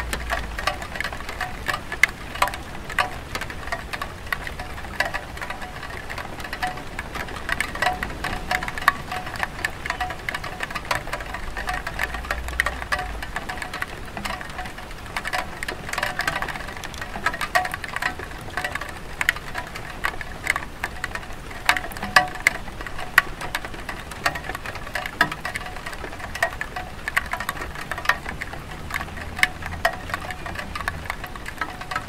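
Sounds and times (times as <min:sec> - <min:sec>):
rain on a tile roof: 0:00.0 - 0:32.0.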